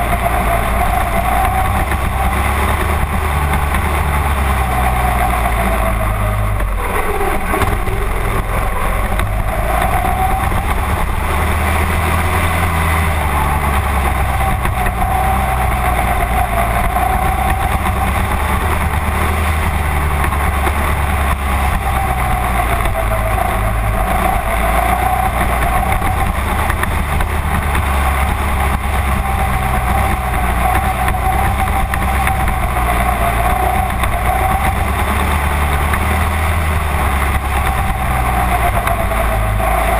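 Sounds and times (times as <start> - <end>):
low rumble: 0.0 - 39.9
race car engine running hard: 0.0 - 39.9.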